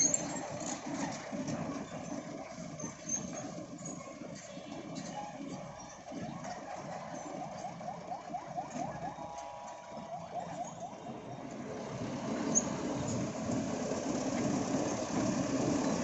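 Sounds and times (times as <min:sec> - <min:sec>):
heavy vehicle engine and road noise: 0:00.0 - 0:16.0.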